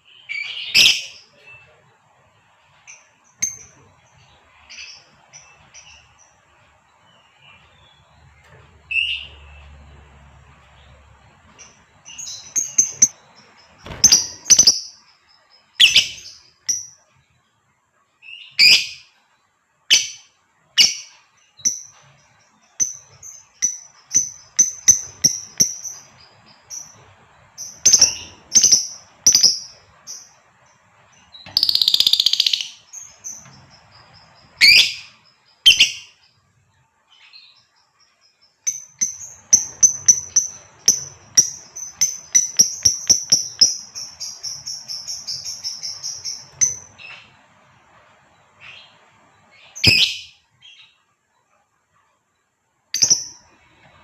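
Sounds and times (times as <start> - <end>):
lovebird chirping: 0.0 - 1.8, 2.8 - 17.2, 18.2 - 19.2, 19.9 - 36.4, 37.0 - 51.1, 52.4 - 54.0.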